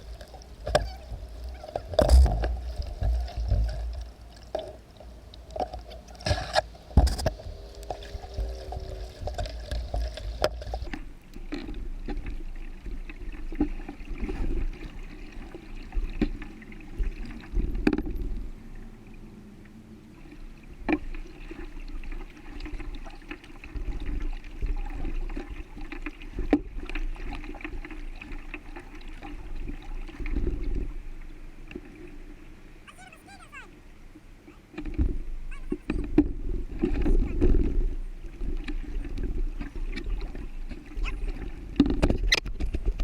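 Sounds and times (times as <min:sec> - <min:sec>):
paddle splashing and dripping: 0:00.0 - 0:19.3, 0:20.1 - 0:43.0.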